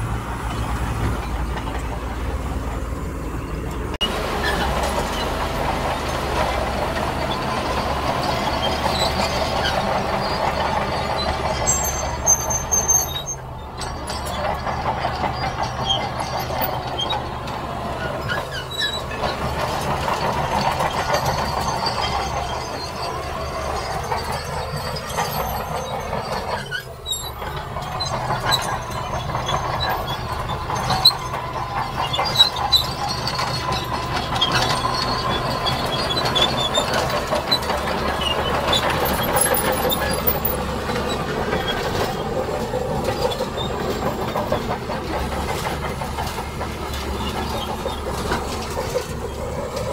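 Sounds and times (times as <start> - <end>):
heavy machinery engine: 0.0 - 49.9
steel tracks squeaking: 0.0 - 49.9.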